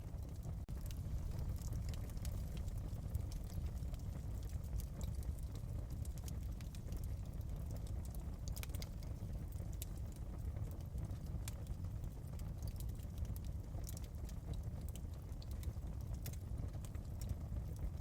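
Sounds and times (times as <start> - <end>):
low rumble of burning hearth: 0.0 - 18.0
wood fire crackling: 0.0 - 18.0.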